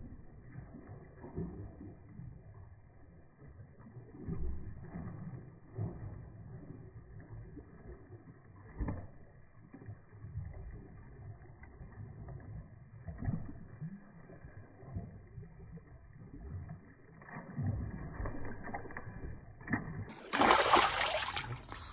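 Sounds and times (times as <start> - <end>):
water sloshing and splashing: 0.0 - 21.9.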